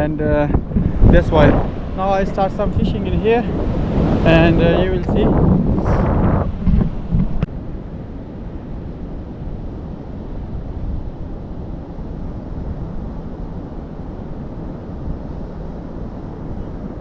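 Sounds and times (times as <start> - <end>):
ocean surf on beach: 0.0 - 17.0
wind noise on microphone: 0.0 - 17.0.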